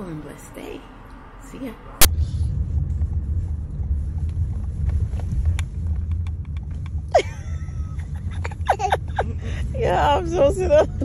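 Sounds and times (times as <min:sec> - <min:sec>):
low rumble inside a car: 0:00.6 - 0:11.0.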